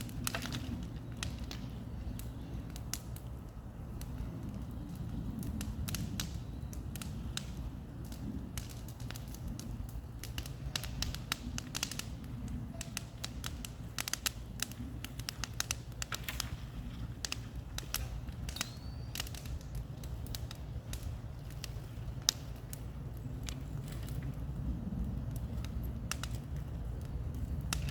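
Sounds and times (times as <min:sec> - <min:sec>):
bonfire crackling: 0:00.0 - 0:27.9.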